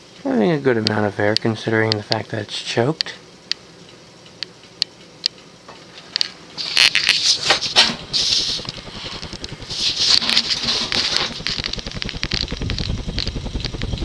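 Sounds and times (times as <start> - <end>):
ceiling fan ticks: 0.0 - 6.4, 7.6 - 14.0.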